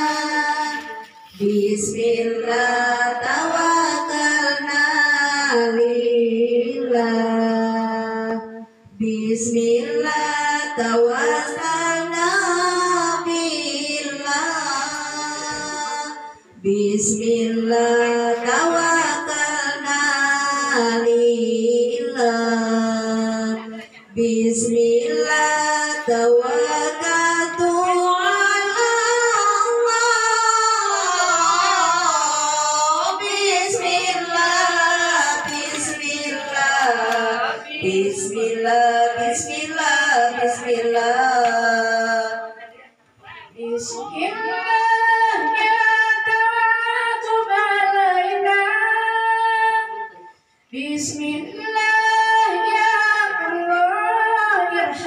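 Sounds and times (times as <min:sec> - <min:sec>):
women singing slow chant: 0:00.0 - 0:55.0.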